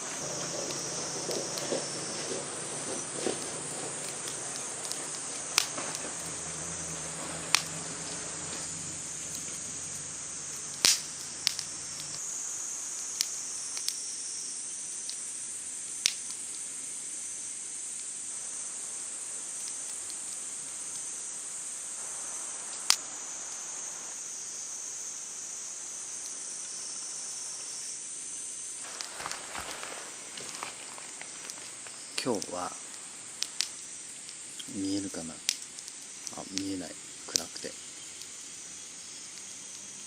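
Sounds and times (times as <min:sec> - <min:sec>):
campfire popping: 0:00.0 - 0:40.0
insects trilling: 0:00.0 - 0:40.0.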